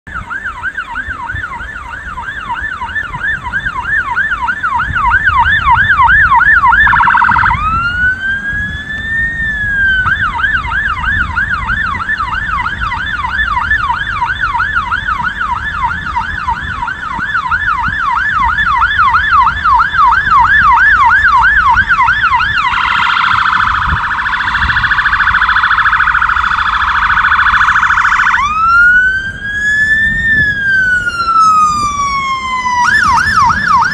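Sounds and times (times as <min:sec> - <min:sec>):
fire engine siren: 0:00.0 - 0:33.9
low traffic rumble: 0:00.1 - 0:33.9.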